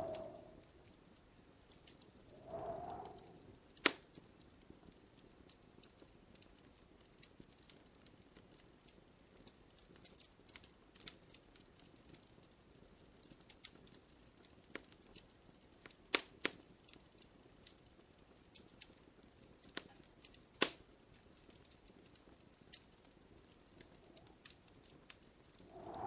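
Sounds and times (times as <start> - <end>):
faint steady hiss: 0.0 - 26.0
wood fire crackling: 0.0 - 26.0.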